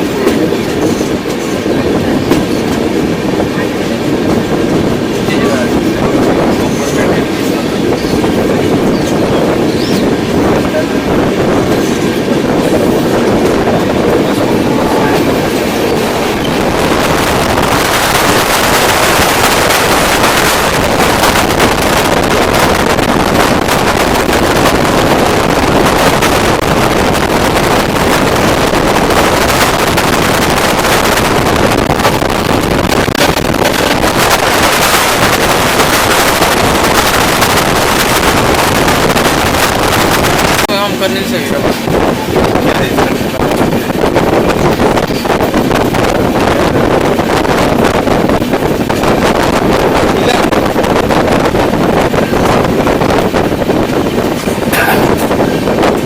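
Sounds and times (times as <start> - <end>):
rushing air: 0.0 - 56.0
train wheels rumbling on rails: 0.0 - 56.0.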